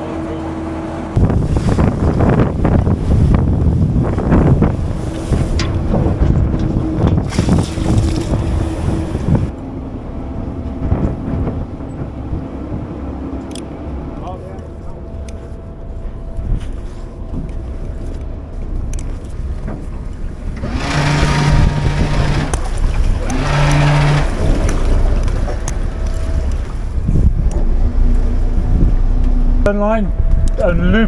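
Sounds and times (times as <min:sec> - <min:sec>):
boat engines running: 0:00.0 - 0:31.0
wind on microphone: 0:01.2 - 0:09.6, 0:10.2 - 0:31.0.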